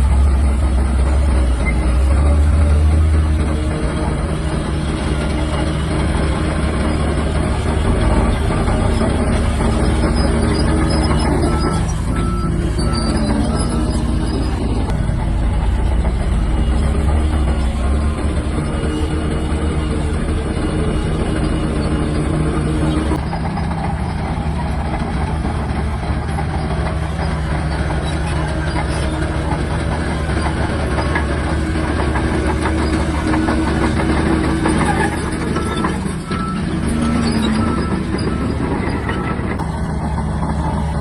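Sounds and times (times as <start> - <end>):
bulldozer diesel engine: 0.0 - 41.0.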